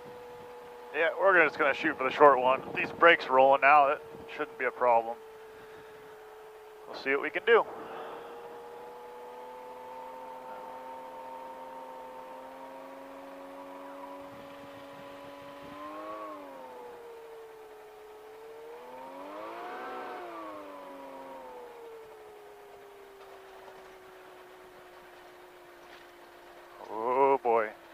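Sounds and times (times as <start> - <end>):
light aircraft engine running: 0.0 - 27.9.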